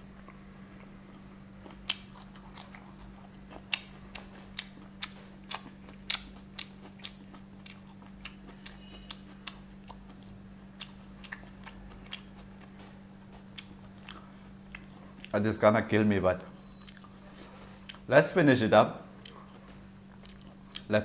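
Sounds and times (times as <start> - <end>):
steady low hum: 0.0 - 21.0
crunchy chewing of fried chicken: 0.1 - 15.4, 16.7 - 18.1, 19.1 - 21.0.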